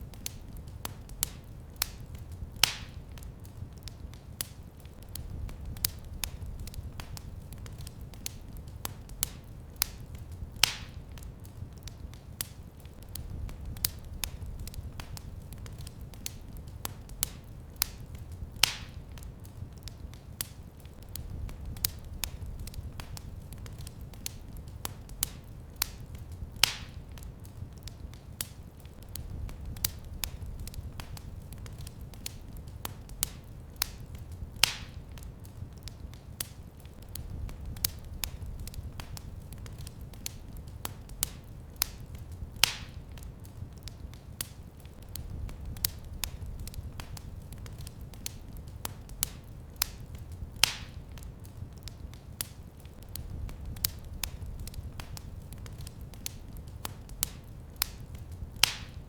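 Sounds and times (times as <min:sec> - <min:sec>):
fire popping: 0:00.0 - 0:59.0
wood fire crackling: 0:00.0 - 0:59.0.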